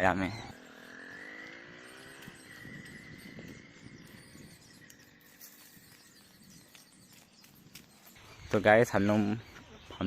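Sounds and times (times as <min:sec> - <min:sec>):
drawn-out animal call: 0:00.0 - 0:10.0.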